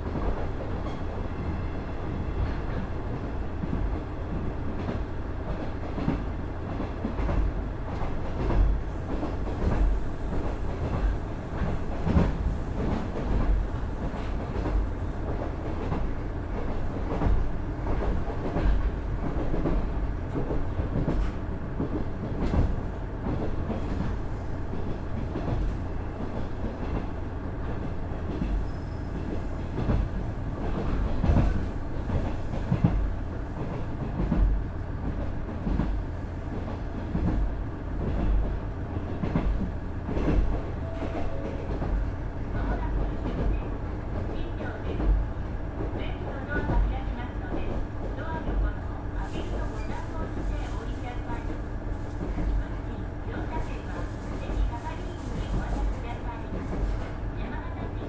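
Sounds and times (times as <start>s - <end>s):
railcar rumbling: 0.0s - 58.0s.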